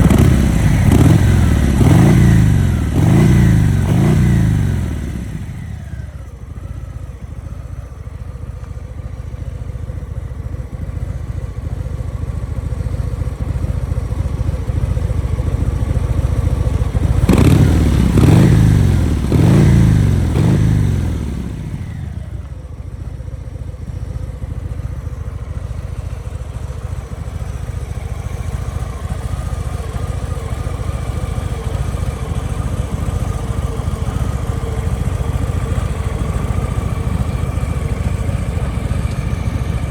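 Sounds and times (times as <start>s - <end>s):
motorcycle engine idling: 0.0s - 39.9s
motorcycle throttle blips: 0.0s - 39.9s.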